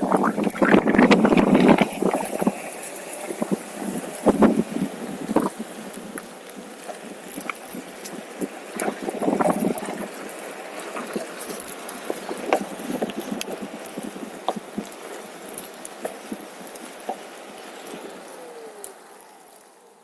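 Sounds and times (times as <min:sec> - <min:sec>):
tyre rolling on rough trail: 0:00.0 - 0:20.0.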